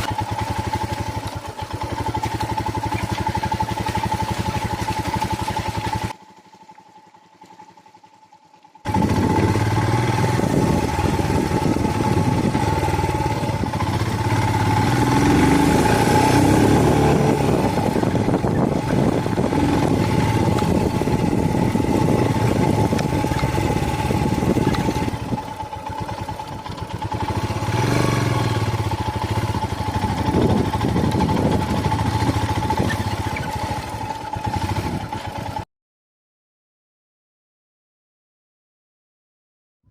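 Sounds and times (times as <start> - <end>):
motorcycle engine running: 0.0 - 35.7.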